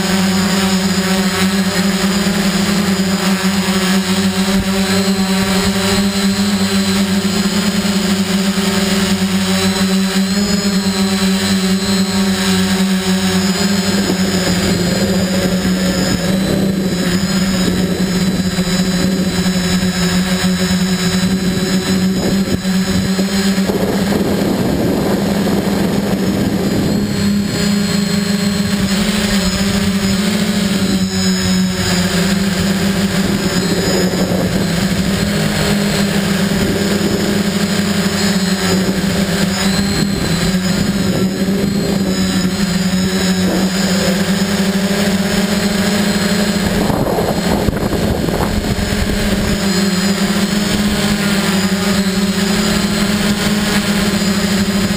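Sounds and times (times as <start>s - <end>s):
drone motors and propellers: 0.0s - 54.9s
wind noise on microphone: 0.0s - 54.9s.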